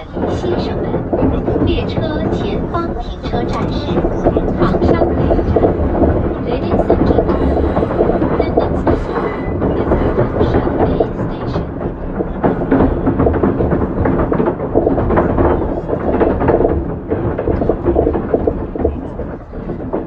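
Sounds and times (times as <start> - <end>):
train rattles and clunks: 0.0 - 20.0
train wheels rumbling on rails: 0.0 - 20.0.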